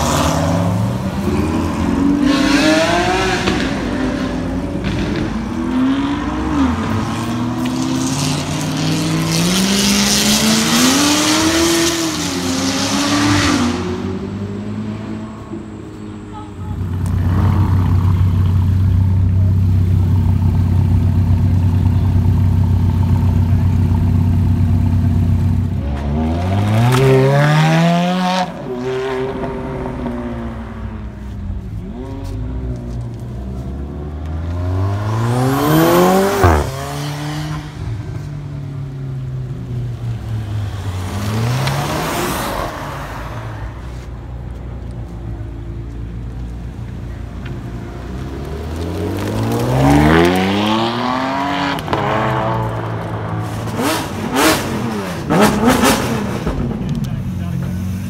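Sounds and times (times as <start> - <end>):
car engine revving: 0.0 - 15.7, 16.8 - 43.8, 47.3 - 58.0.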